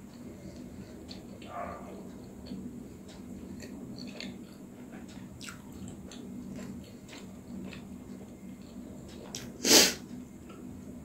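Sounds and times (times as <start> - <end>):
chewing dumplings: 0.0 - 9.6.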